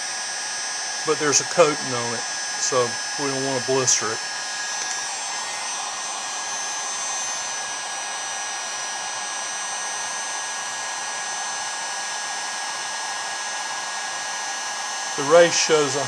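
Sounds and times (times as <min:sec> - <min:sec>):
heat gun blowing with high whine: 0:00.0 - 0:16.0.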